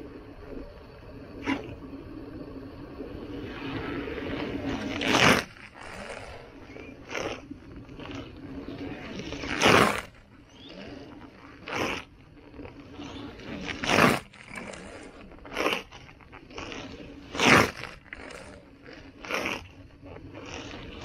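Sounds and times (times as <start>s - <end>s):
tyre crunching on wet asphalt: 3.6s - 12.1s, 12.7s - 21.0s.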